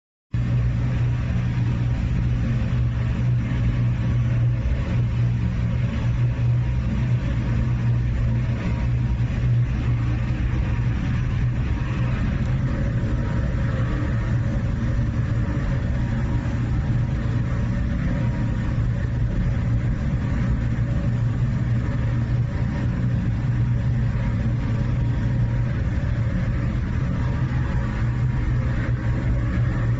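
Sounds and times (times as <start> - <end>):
even rushing noise: 0.4 - 29.9
furnace plant low hum: 0.4 - 29.9.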